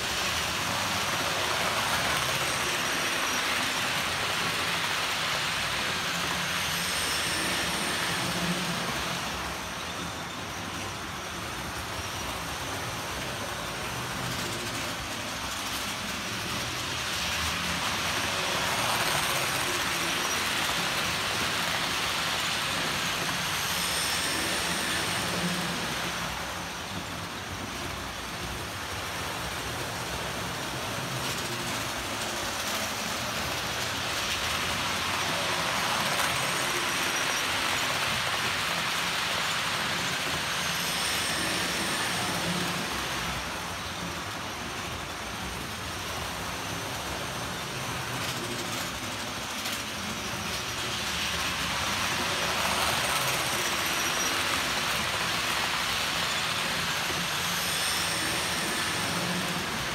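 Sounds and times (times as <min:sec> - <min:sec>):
model trains rolling on track: 0:00.0 - 0:59.9.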